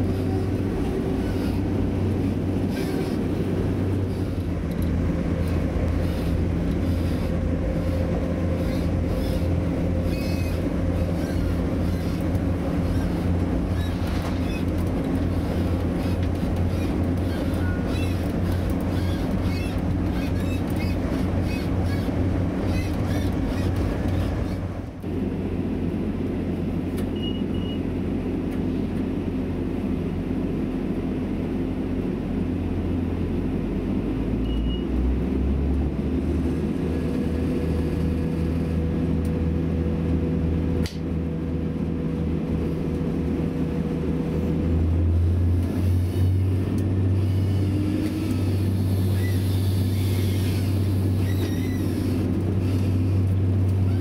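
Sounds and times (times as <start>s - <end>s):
train diesel engine humming: 0.0s - 54.0s.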